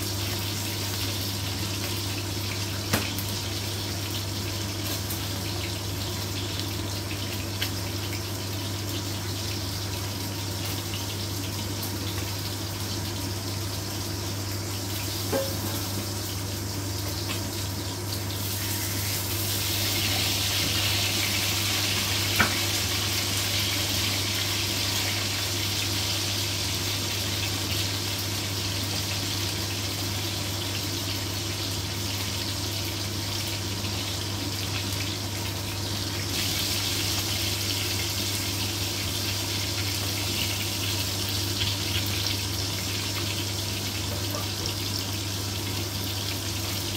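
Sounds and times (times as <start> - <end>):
meat sizzling in a frying pan: 0.0 - 46.9.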